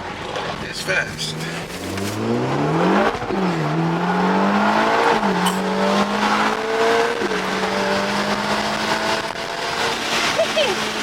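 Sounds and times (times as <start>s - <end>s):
sports car accelerating through gears: 1.2s - 11.0s.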